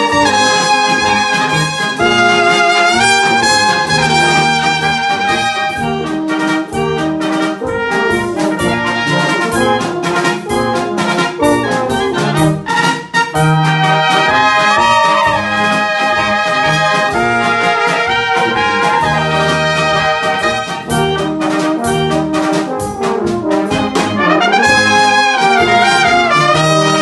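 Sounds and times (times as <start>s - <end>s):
wind band playing a polka: 0.0s - 27.0s.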